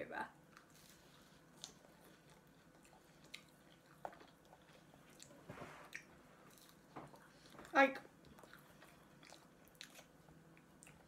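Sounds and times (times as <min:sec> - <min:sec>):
person chewing: 0:00.5 - 0:11.0.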